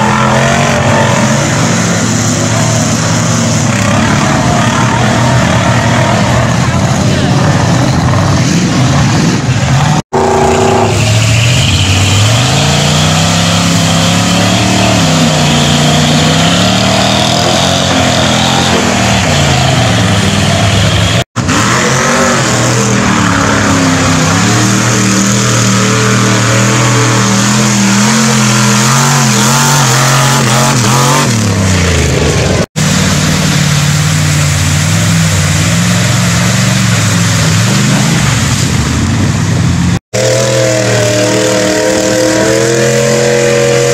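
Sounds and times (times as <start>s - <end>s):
truck engines revving in mud: 0.0s - 43.9s.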